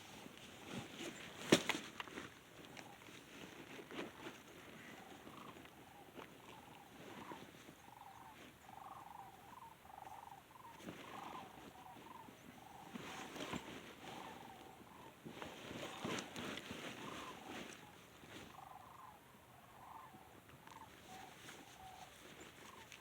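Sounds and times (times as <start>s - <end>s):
rattling animal calls: 4.0s - 23.0s.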